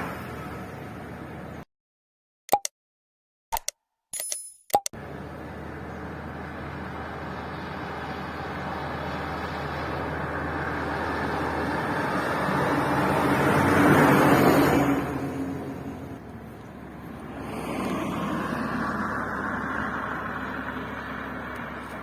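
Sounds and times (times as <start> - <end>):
car passing on road: 0.0 - 1.6, 5.0 - 22.0.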